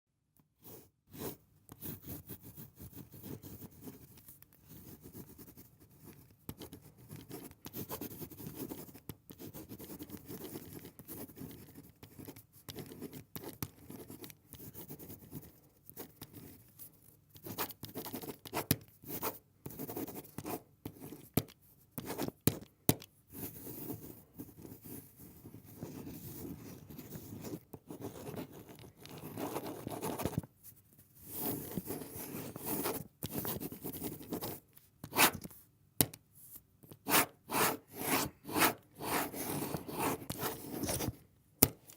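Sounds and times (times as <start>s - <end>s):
pen scratching on paper: 0.6s - 16.8s, 17.4s - 21.4s, 22.0s - 22.4s, 23.3s - 30.5s, 31.2s - 35.5s, 36.9s - 41.2s.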